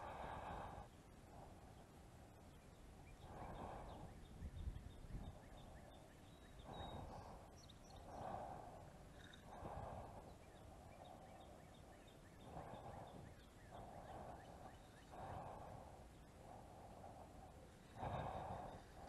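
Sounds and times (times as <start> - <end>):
soft nose breathing: 0.0 - 19.0.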